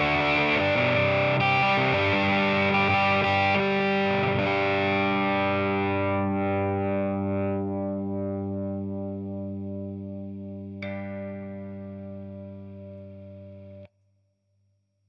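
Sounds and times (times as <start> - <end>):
distorted electric guitar chords: 0.0 - 13.9.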